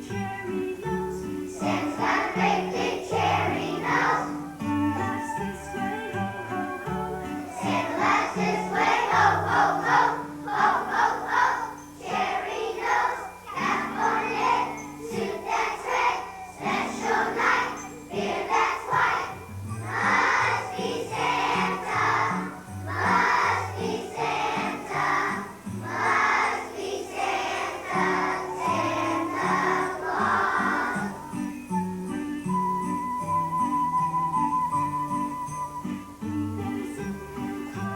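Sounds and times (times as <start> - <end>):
children's choir singing: 0.0 - 36.2
instrumental accompaniment: 0.0 - 37.9.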